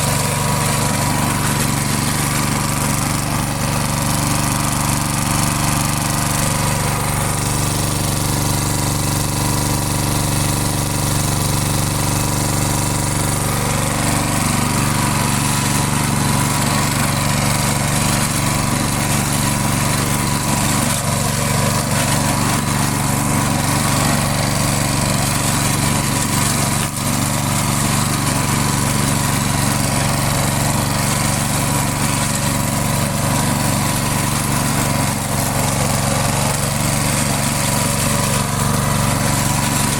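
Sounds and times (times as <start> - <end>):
lawn mower engine idling: 0.0 - 39.9.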